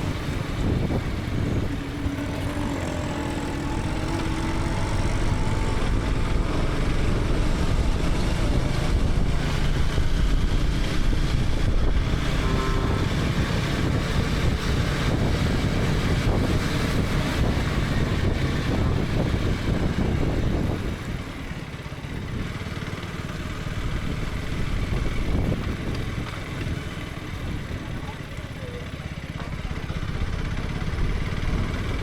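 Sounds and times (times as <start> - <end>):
motorcycle engine running: 0.0 - 32.0
road noise: 0.0 - 32.0
wind: 0.0 - 32.0.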